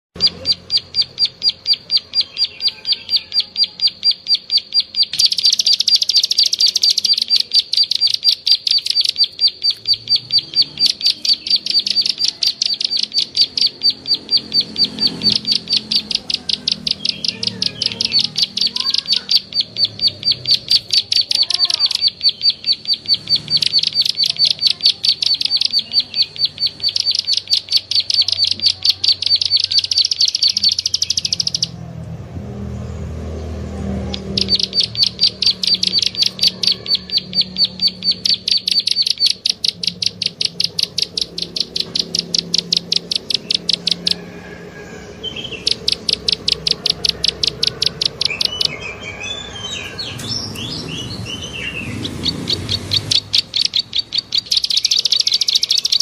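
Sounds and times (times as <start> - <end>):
bird lure clicking chirps: 0.2 - 31.8, 34.1 - 44.2, 45.5 - 48.8, 51.9 - 56.0.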